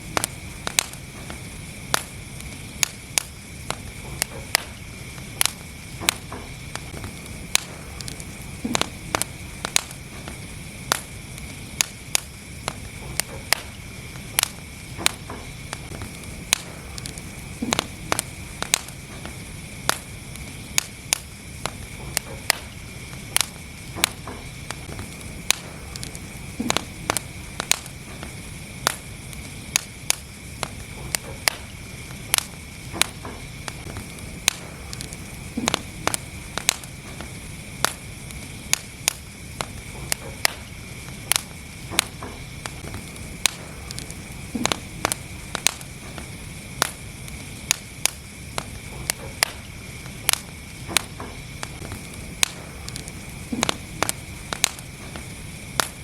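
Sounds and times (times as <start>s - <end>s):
fire crackling and popping: 0.0s - 56.0s
low rush of flames: 0.0s - 56.0s.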